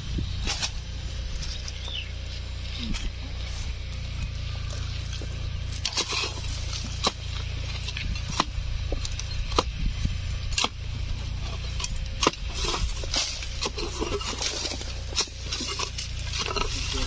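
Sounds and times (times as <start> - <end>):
low rumble: 0.0 - 17.0
digging tool striking soil: 0.4 - 1.8, 4.6 - 17.0.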